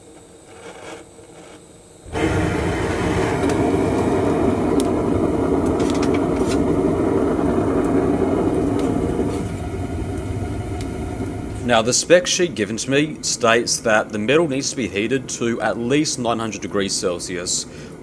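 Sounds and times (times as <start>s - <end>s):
gas burner roaring: 1.9s - 18.0s.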